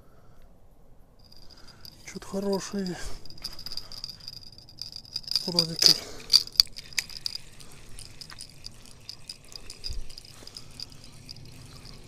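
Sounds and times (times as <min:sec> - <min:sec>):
fishing reel whirring: 0:01.2 - 0:12.0
fishing rod handling noise: 0:01.2 - 0:12.0
insects ticking: 0:01.2 - 0:12.0.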